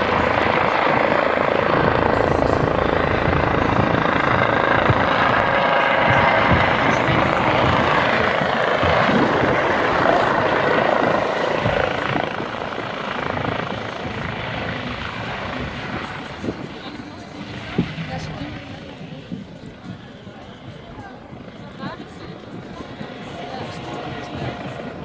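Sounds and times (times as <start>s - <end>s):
helicopter rotor and turbine: 0.0s - 25.0s.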